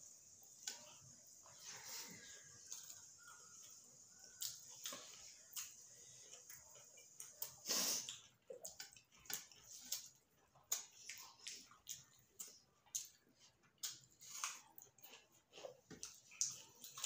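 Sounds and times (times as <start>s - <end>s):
people chewing with wet mouth smacks: 0.3s - 17.0s.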